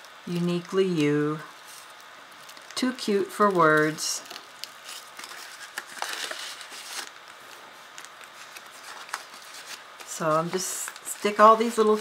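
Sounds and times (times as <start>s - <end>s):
paper and cardstock rustling: 0.4s - 12.0s.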